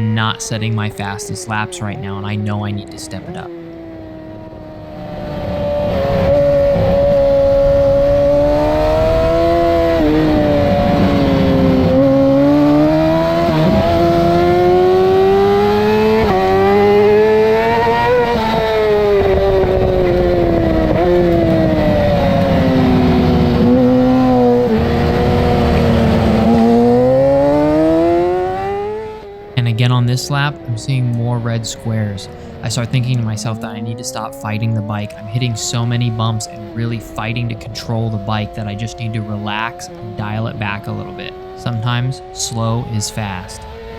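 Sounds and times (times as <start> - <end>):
motorcycle engine revving through gears: 1.9 - 29.6, 30.6 - 43.9.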